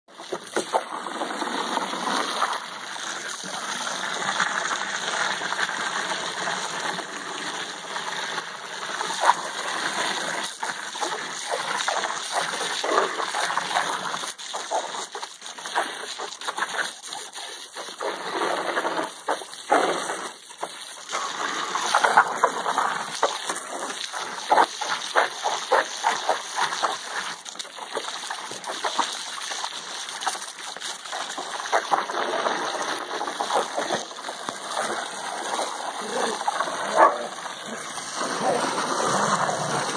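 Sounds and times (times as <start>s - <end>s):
dogs splashing in water: 0.1s - 6.0s, 8.8s - 39.9s
hose spraying water: 0.1s - 7.4s, 8.8s - 39.9s.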